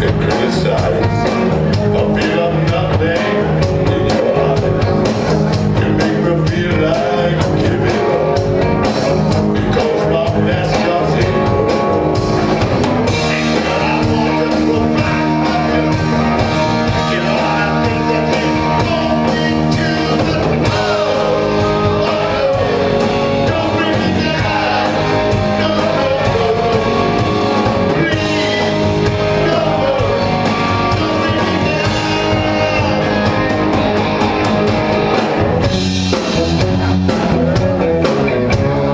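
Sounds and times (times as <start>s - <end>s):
lead vocal singing: 0.0s - 8.7s, 9.3s - 34.6s
drum kit: 0.0s - 38.9s
electric guitars: 0.0s - 38.9s.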